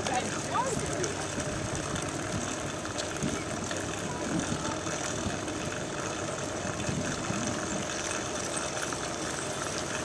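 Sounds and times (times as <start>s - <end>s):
wind buffeting microphone: 0.0s - 8.3s
road and drivetrain noise: 0.0s - 10.0s.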